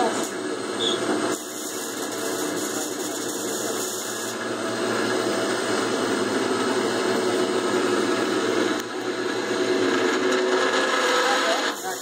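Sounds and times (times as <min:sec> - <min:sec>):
metal lathe drilling metal: 0:00.0 - 0:12.0.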